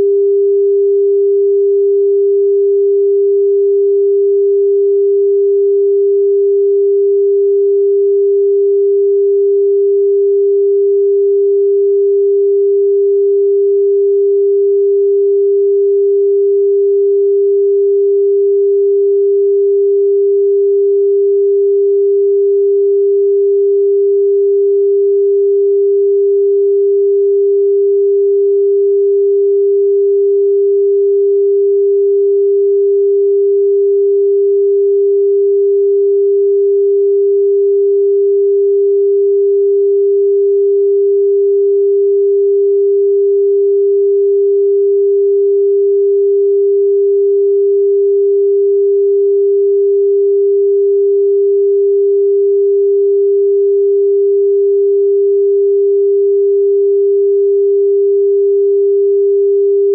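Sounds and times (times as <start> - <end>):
pure sine tone: 0.0 - 59.9.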